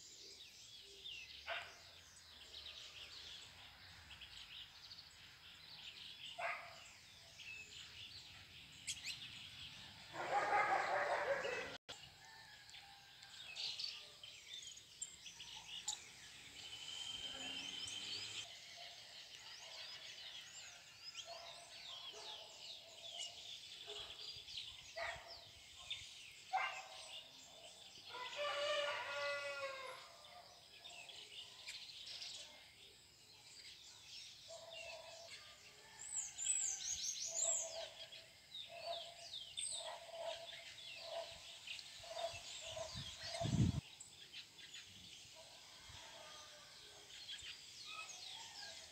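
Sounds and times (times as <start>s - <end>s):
small birds chirping: 0.0s - 11.8s, 13.2s - 29.3s, 30.6s - 46.2s.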